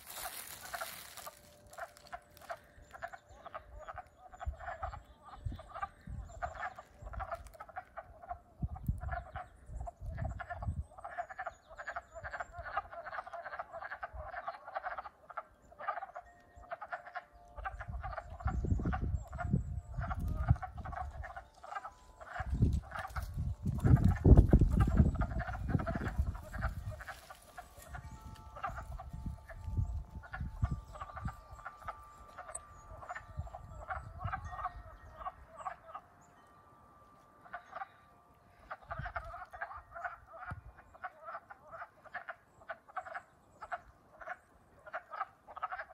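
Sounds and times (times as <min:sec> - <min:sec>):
frogs clucking: 0:00.0 - 0:45.9.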